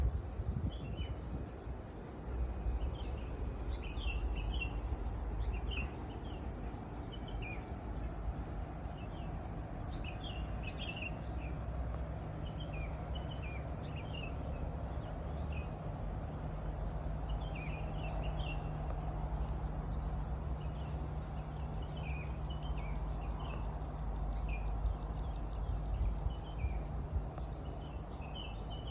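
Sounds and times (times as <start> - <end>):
low background rumble: 0.0 - 28.9
songbirds chirping and trilling: 0.0 - 28.9.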